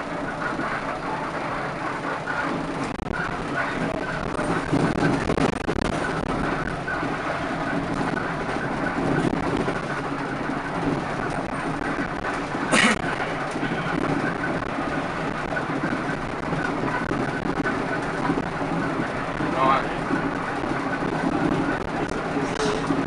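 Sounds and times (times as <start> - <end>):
bus rumble and rattle: 0.0 - 23.0.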